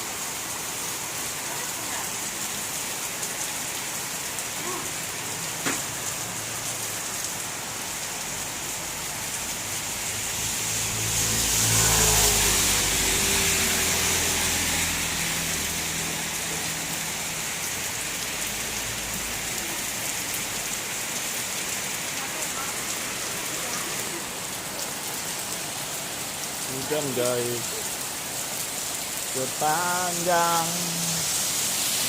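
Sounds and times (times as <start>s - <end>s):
heavy rain falling: 0.0s - 32.0s
vehicle passing on wet road: 0.0s - 32.0s.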